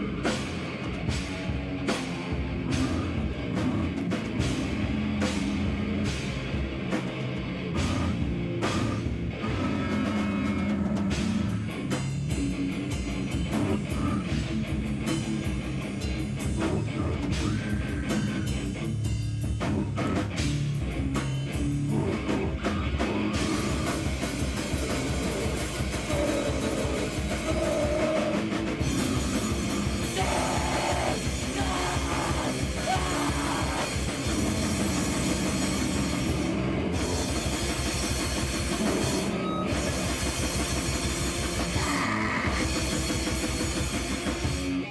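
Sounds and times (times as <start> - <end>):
distorted guitar: 0.0 - 44.9
drum kit pounding: 0.0 - 44.9.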